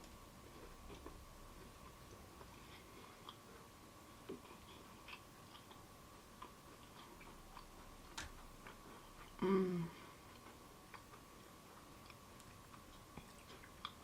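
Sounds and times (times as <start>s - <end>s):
chewing crispy donut: 0.4s - 14.0s.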